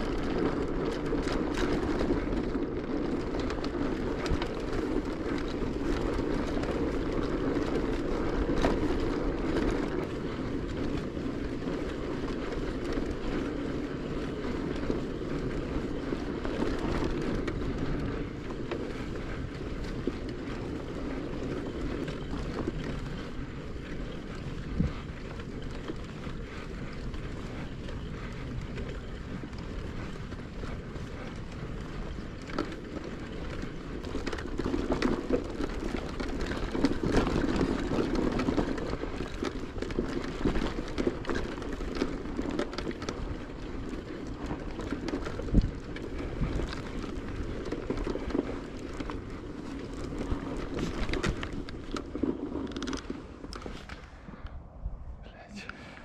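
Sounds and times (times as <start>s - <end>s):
bike clicks and rattles: 0.0s - 54.6s
wind on microphone: 0.0s - 55.7s
bicycle tyres rumbling: 0.0s - 56.0s.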